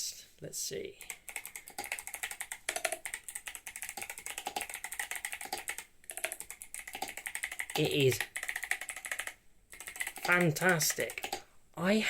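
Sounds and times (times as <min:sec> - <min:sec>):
clicky mechanical keyboard typing: 0:01.0 - 0:11.4.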